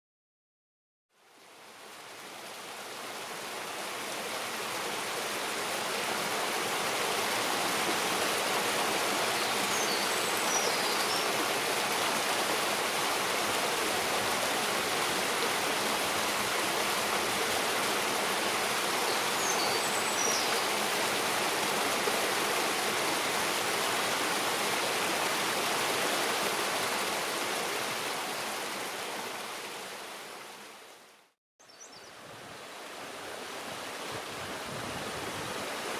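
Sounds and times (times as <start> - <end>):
stream water rushing: 1.1 - 35.9.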